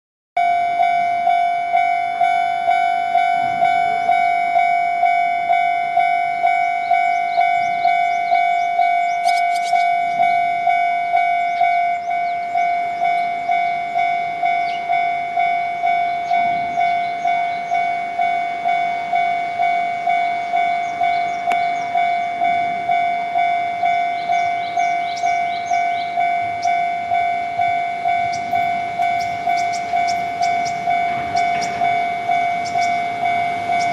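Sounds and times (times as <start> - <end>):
level-crossing electronic bell: 0.4 - 33.9.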